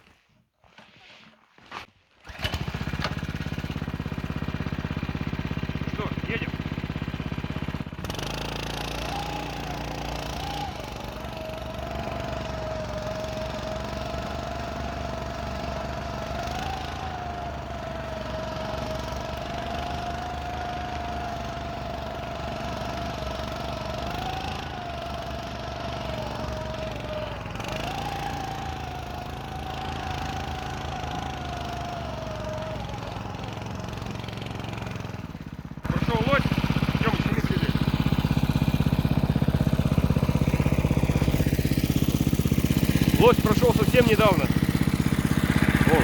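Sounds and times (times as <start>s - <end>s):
snow scooter engine droning: 0.8s - 46.0s.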